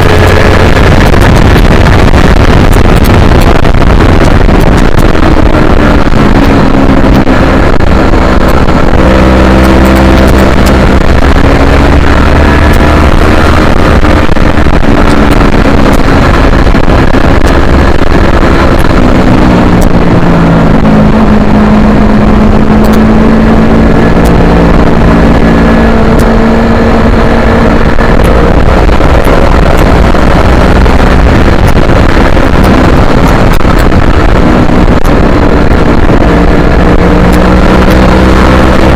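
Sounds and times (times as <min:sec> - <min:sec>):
motorcycle engine pulling hard: 0:00.0 - 0:38.9
wind noise rushing: 0:00.0 - 0:38.9.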